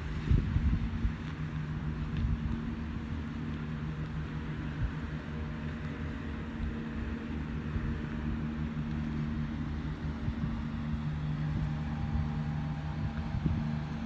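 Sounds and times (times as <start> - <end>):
low mechanical hum: 0.0 - 14.0
outdoor background hiss: 0.0 - 14.0.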